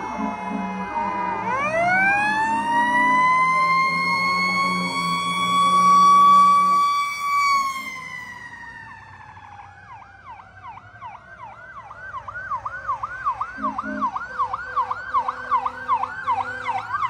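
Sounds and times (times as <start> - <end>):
siren wailing: 0.0 - 17.0
siren yelping: 0.0 - 17.0.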